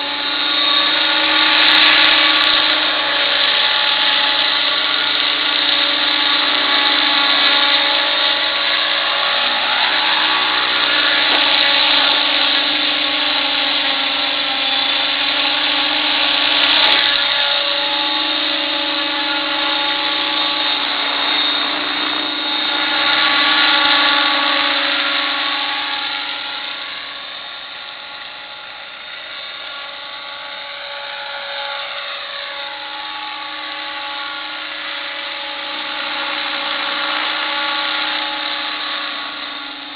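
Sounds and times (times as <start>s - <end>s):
electric motor and gear whine: 0.0s - 39.9s
helicopter rotor noise: 0.0s - 39.9s.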